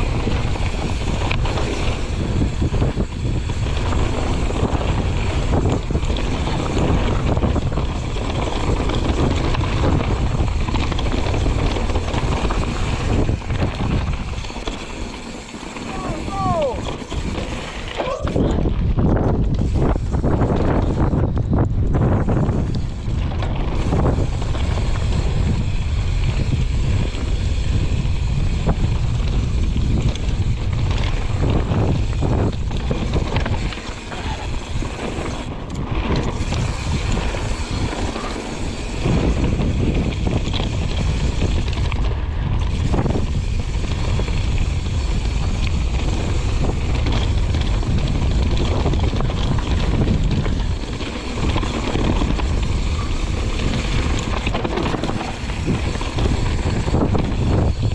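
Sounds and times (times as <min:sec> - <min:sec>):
mountain bike rumbling: 0:00.0 - 0:57.9
wind buffeting microphone: 0:00.0 - 0:57.9.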